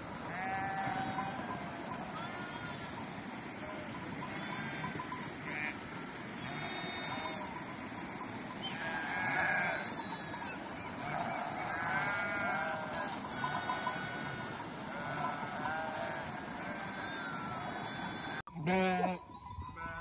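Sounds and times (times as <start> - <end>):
sheep bleating: 0.2 - 7.9, 8.6 - 20.0.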